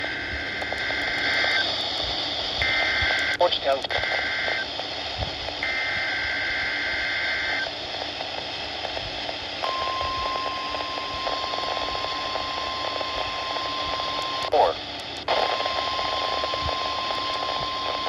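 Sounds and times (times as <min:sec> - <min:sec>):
steady warning alarm tone: 0:00.0 - 0:04.7, 0:05.6 - 0:07.6, 0:09.6 - 0:18.0
raspy data tone bursts: 0:00.0 - 0:04.8, 0:05.6 - 0:07.7, 0:09.6 - 0:18.0
radio hiss: 0:00.0 - 0:18.0.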